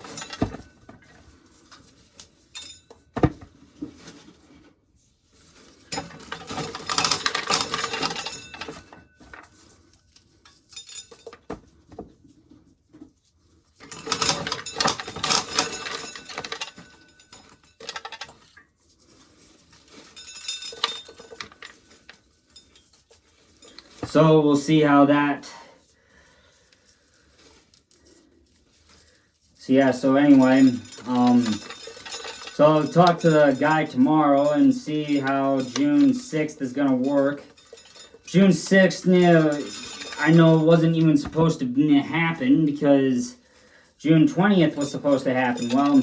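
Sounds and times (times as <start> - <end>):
corn kernels rattling: 0.0 - 0.6, 5.4 - 9.8, 13.8 - 46.0.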